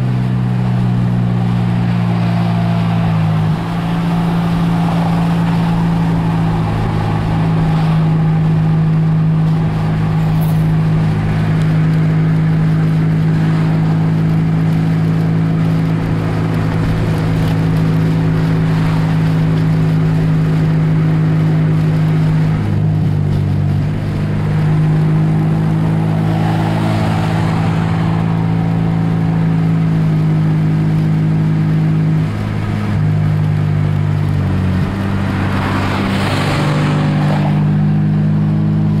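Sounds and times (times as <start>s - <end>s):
car engine drone from inside: 0.0s - 39.0s
passing car rush: 0.0s - 39.0s
road and tyre noise: 0.0s - 39.0s.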